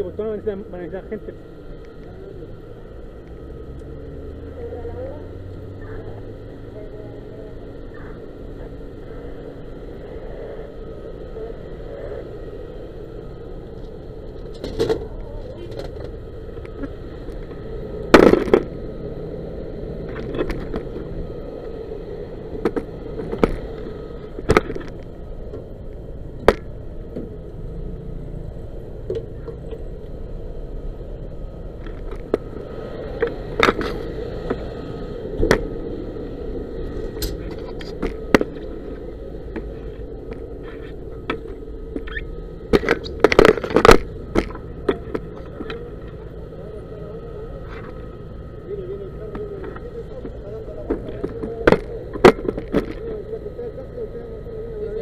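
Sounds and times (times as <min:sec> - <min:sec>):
fire truck engine drone: 0:00.0 - 0:55.0.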